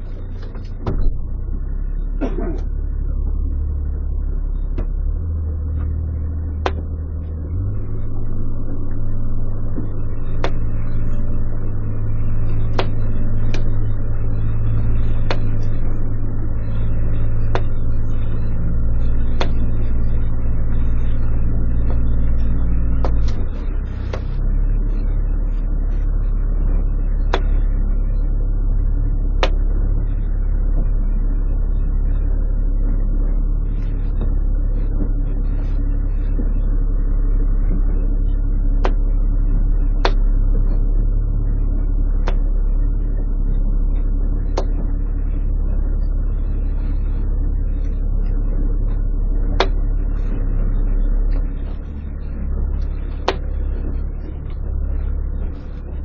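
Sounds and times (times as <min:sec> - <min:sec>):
boat engine rumbling: 0:00.0 - 0:56.0.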